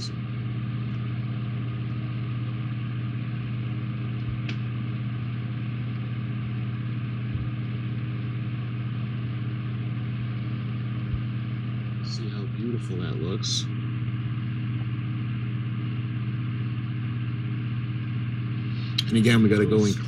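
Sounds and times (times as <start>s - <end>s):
machine hum with hiss: 0.0s - 20.0s.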